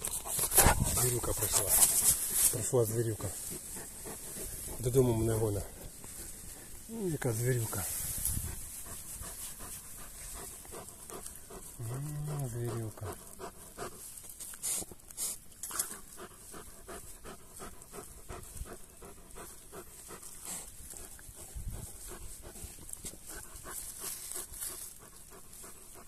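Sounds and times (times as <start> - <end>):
dog panting: 0.0 - 26.0
rustling of fur and grass: 0.0 - 26.0.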